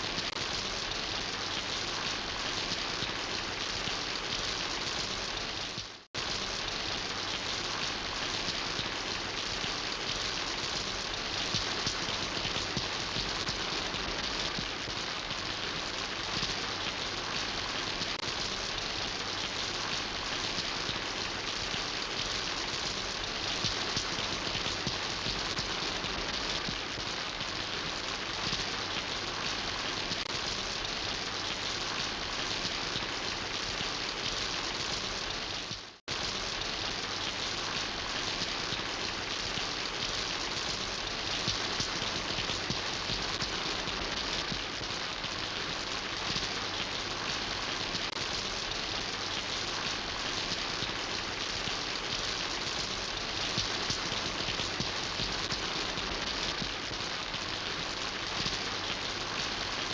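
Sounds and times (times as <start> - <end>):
rain pattering on surfaces: 0.0 - 59.9.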